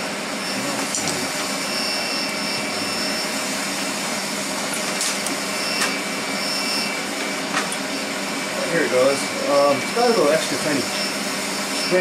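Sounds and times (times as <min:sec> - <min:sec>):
machine blowing whir: 0:00.0 - 0:12.0.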